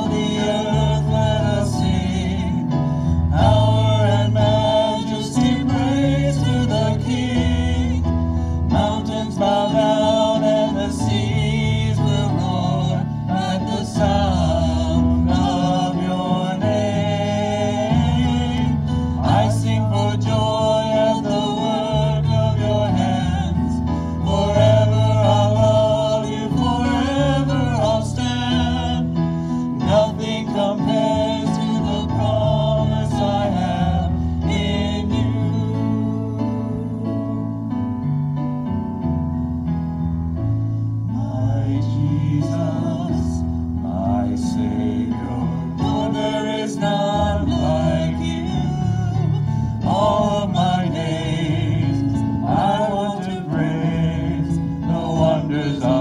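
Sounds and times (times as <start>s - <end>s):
voices singing a hymn: 0.0s - 38.2s, 40.7s - 56.0s
instrumental accompaniment with bass: 0.0s - 56.0s.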